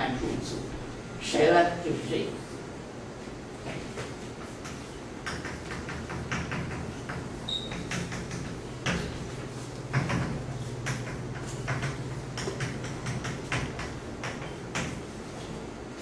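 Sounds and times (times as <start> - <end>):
low hum of room equipment: 0.0 - 16.0.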